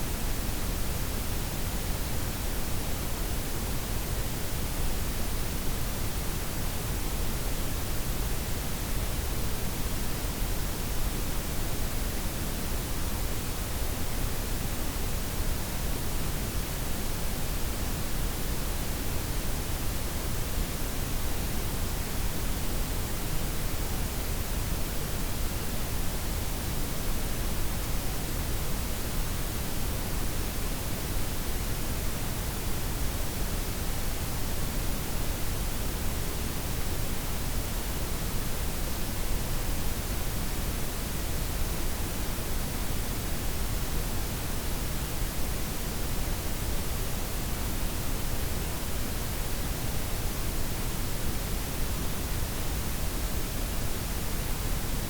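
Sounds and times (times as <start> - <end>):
noise blend hiss with rumble: 0.0 - 55.0.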